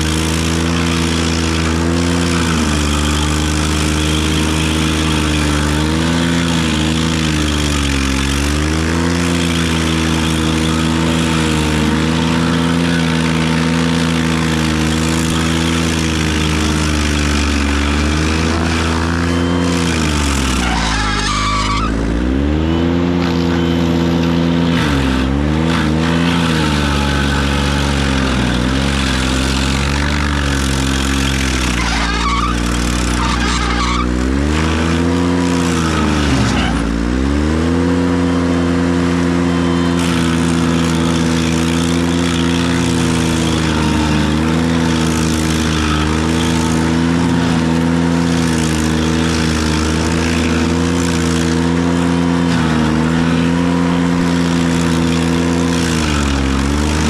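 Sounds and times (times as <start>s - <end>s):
tractor engine running hard: 0.0s - 57.0s.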